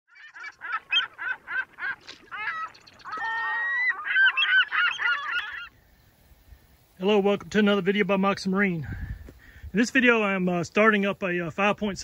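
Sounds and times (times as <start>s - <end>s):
birds calling: 0.1s - 11.5s.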